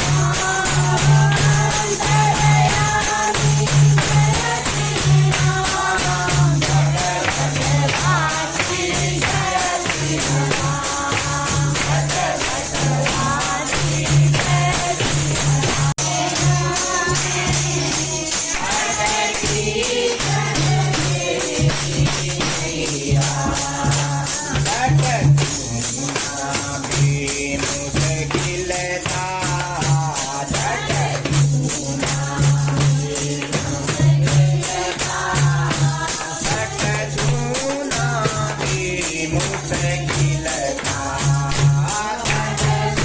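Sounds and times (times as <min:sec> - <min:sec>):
jingling hand percussion: 0:00.0 - 0:43.0
rhythmic low drum beat: 0:00.0 - 0:43.0
voices singing a hymn: 0:00.0 - 0:43.0.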